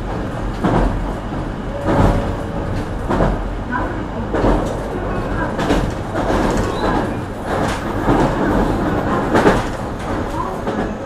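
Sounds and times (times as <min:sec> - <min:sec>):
clacks over rail joints: 0:00.0 - 0:11.0
train wheels rumbling on rail: 0:00.0 - 0:11.0.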